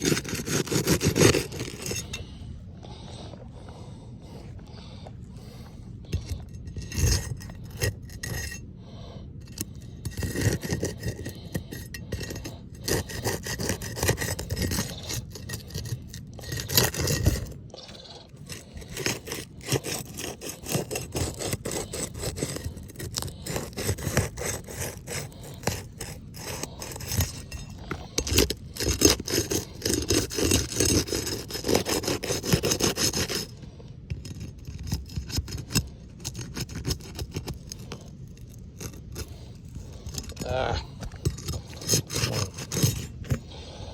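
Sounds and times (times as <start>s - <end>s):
scraping on roof shingle: 0.0s - 2.1s, 10.1s - 33.5s, 34.2s - 43.9s.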